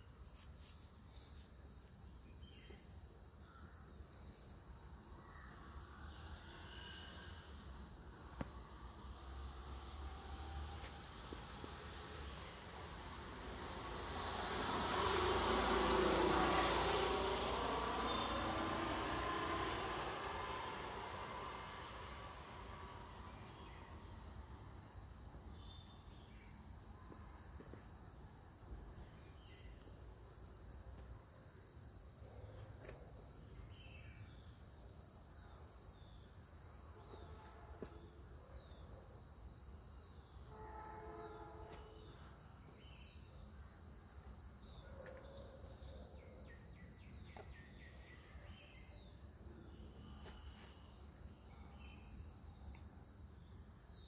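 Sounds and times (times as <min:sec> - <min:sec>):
insects trilling: 0:00.0 - 0:31.0, 0:33.4 - 0:54.0.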